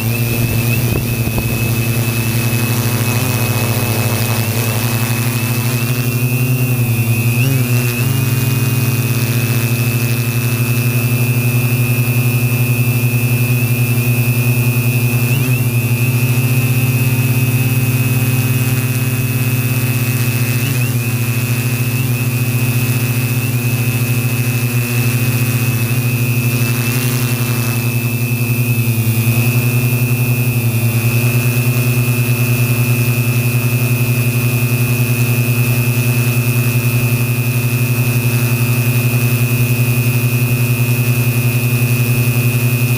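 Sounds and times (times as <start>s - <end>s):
drone motors buzzing and whining: 0.0s - 42.9s.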